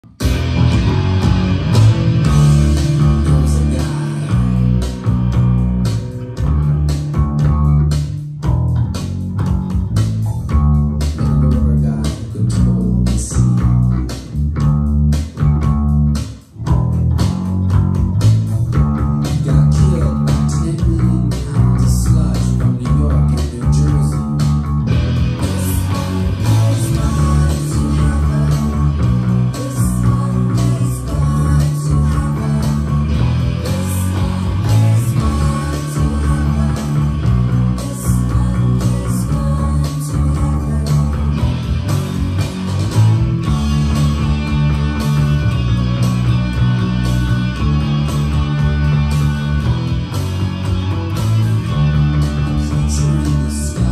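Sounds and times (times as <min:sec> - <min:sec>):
electric bass rock bassline: 0:00.0 - 0:53.9
rock band playing: 0:00.0 - 0:53.9.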